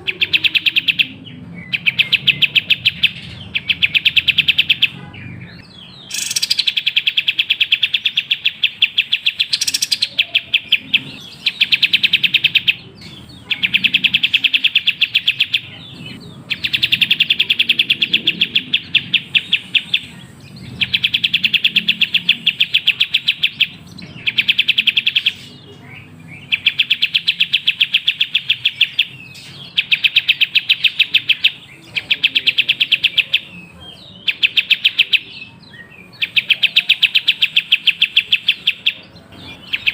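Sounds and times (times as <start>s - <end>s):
songbird trilling chirps: 0.0s - 39.9s.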